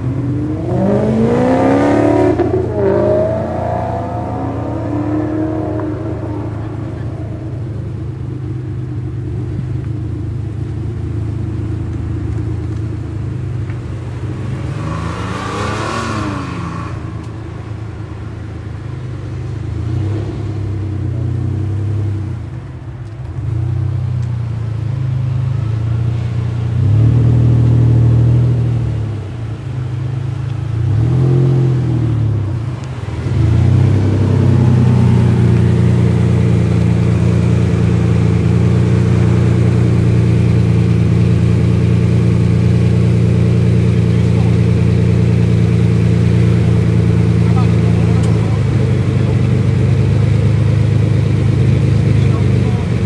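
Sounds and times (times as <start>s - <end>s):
car engine idling: 0.0s - 14.7s, 16.5s - 26.9s, 31.9s - 53.0s
sports car engines revving: 0.0s - 53.0s.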